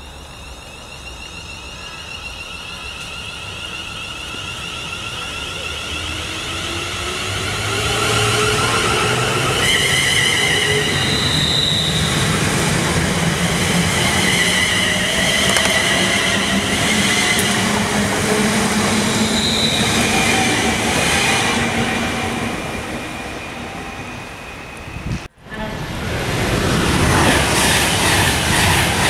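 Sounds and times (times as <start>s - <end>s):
train wheel and track noise: 0.0s - 29.0s.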